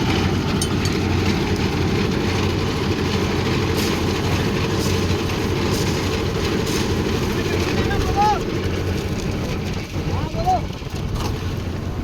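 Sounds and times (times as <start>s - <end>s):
concrete mixer engine humming: 0.0s - 12.0s.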